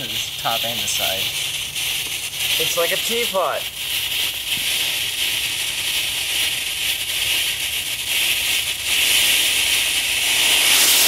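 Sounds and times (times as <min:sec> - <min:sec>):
rocket motor hissing: 0:00.0 - 0:11.0.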